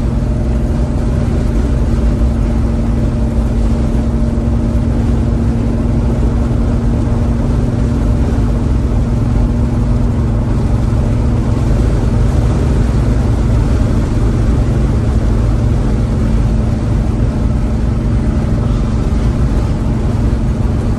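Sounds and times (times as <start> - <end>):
car engine running steadily: 0.0 - 20.9.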